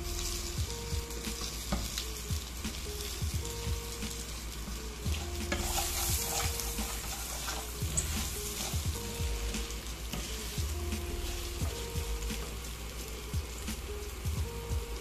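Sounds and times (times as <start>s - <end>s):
rice sizzling in hot oil: 0.0s - 15.0s.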